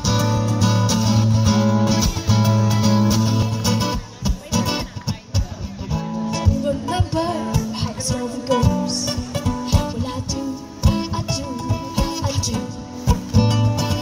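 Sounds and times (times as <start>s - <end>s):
acoustic guitars playing: 0.0s - 14.0s.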